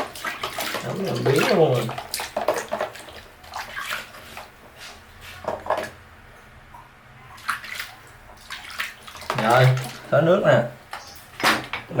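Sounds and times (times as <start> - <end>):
water splashing in a tub: 0.0 - 6.1, 7.3 - 12.0.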